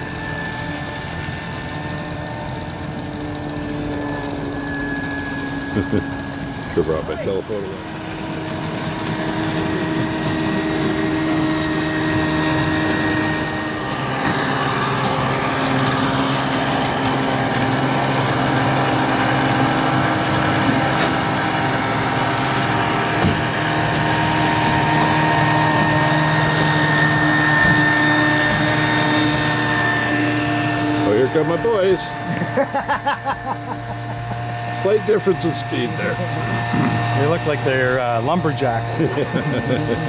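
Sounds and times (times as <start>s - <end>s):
outboard motor drone: 0.0s - 40.0s.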